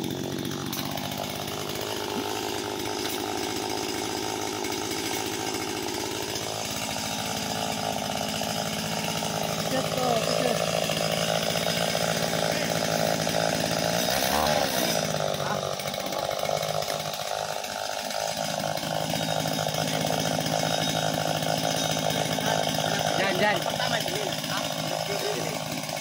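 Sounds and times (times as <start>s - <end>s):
small two-stroke engine running: 0.0s - 26.0s.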